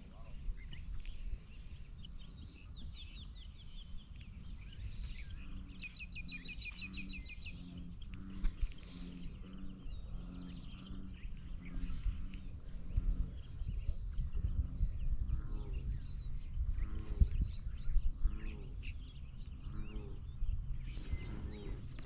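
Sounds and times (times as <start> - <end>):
birds singing trills: 0.0 - 22.0
steady low rumble: 0.0 - 22.0.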